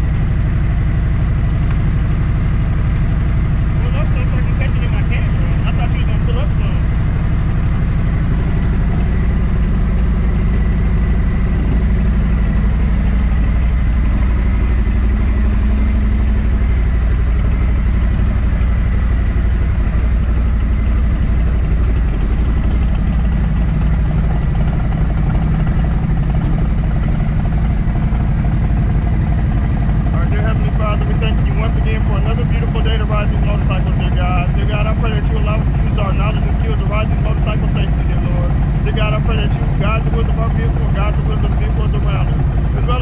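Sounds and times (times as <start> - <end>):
motorcycle engine running steadily: 0.0 - 43.0.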